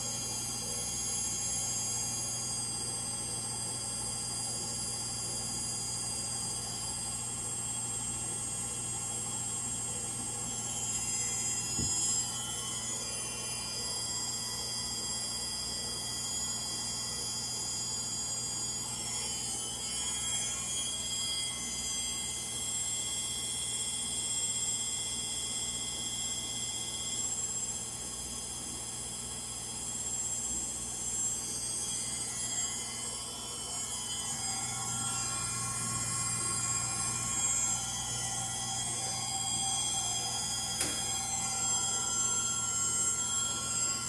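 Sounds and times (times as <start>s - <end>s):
washing machine spinning: 0.0s - 24.3s, 28.3s - 44.0s
high-pitched motor whines: 0.0s - 44.0s.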